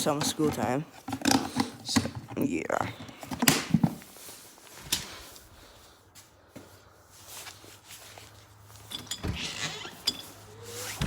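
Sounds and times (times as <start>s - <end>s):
soft footsteps and shuffling: 1.6s - 11.0s.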